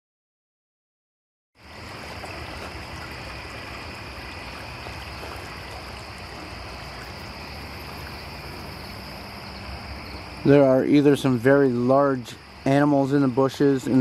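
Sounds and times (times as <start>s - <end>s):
crickets and night insects calling: 1.6s - 14.0s
steady hiss: 1.6s - 14.0s.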